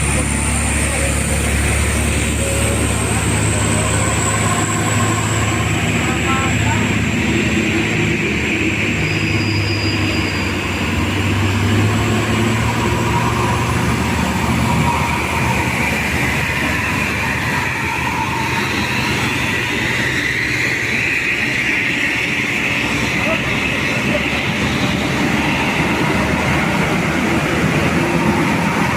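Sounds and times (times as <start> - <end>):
diesel truck engine labouring: 0.0 - 28.9
high rushing noise: 0.0 - 28.9.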